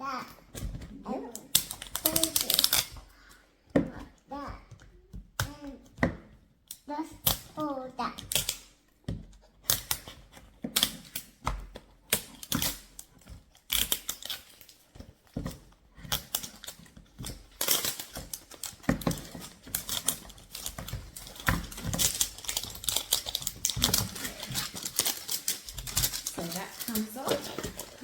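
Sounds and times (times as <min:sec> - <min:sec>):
packaging crinkling and snapping: 0:00.5 - 0:03.3, 0:08.2 - 0:28.0.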